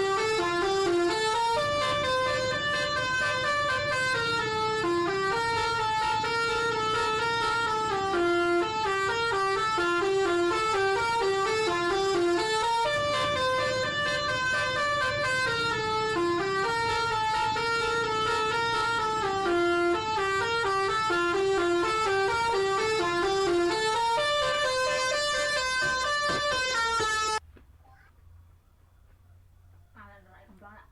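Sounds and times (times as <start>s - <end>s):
bus horn playing a melody: 0.0s - 27.4s.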